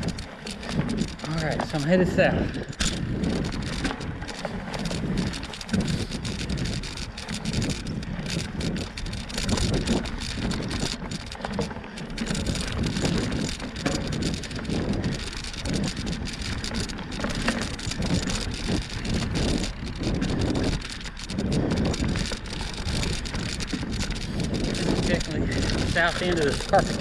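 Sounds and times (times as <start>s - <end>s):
bicycle tyres rattling over dirt: 0.0s - 27.0s
wind buffeting microphone: 0.0s - 27.0s.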